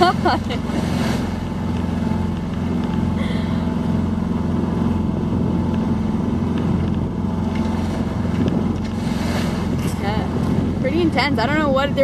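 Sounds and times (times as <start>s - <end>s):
boat motor droning: 0.0s - 12.0s
water noise: 0.0s - 12.0s
wind: 0.0s - 12.0s.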